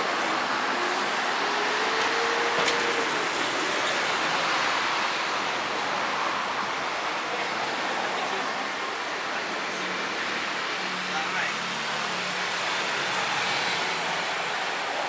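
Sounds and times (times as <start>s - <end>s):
road traffic rushing past: 0.0s - 15.0s.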